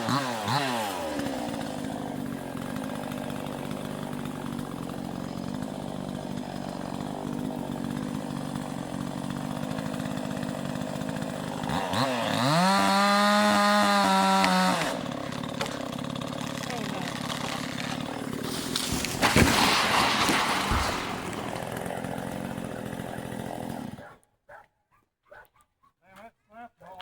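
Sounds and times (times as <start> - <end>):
chainsaw engine idling and revving: 0.0 - 24.2.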